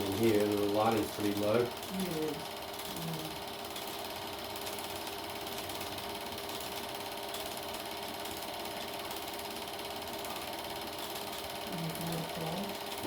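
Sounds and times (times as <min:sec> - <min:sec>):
film projector clatter: 0:00.0 - 0:13.0
motor hum: 0:00.0 - 0:13.0.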